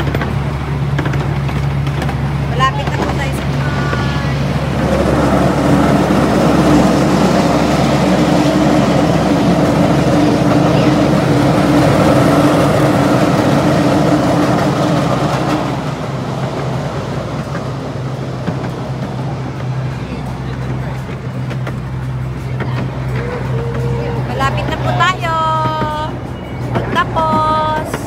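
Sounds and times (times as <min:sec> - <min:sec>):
small train rumbling on track: 0:00.0 - 0:28.0.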